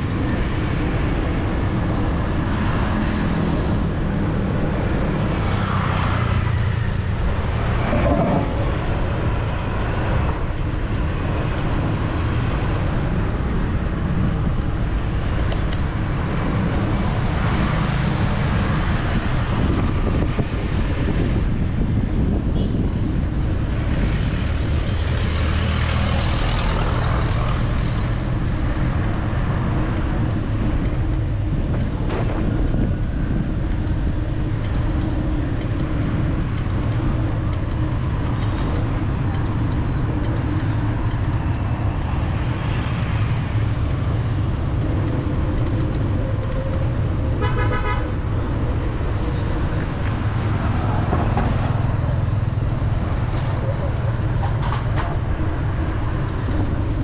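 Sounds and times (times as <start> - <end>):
city road traffic: 0.0 - 57.0
vehicles passing close by: 0.0 - 57.0.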